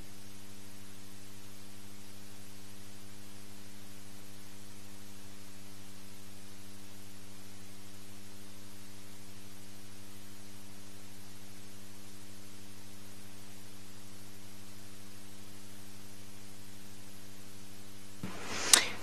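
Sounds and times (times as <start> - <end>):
audio hiss: 0.0 - 19.0
electrical mains hum: 0.0 - 19.0.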